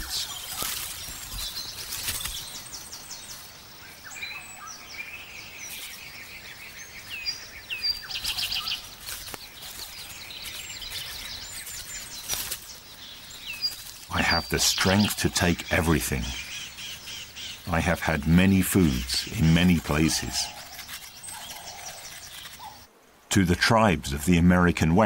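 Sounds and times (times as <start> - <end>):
birds chirping and trilling: 0.0 - 25.0
soft background hiss: 0.0 - 25.0.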